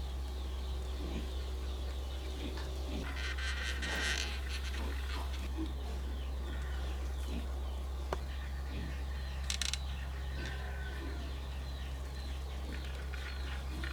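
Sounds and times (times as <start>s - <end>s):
birds chirping: 0.0s - 13.9s
steady low hum: 0.0s - 13.9s.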